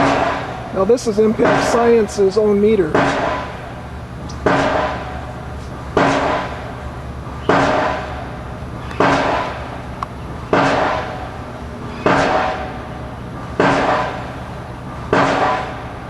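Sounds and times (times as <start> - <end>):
pile-driving hammer blows: 0.0 - 16.0
steady low hum: 0.0 - 16.0.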